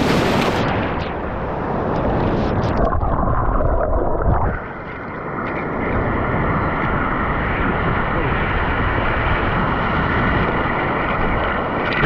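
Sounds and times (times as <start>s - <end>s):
underwater surf churning: 0.0s - 12.0s.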